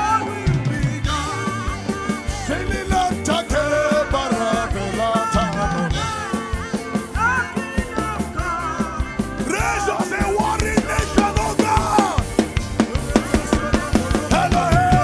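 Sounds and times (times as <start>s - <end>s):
band playing worship music: 0.0s - 15.0s
drum kit beat: 0.0s - 15.0s
man singing into a microphone: 0.0s - 15.0s.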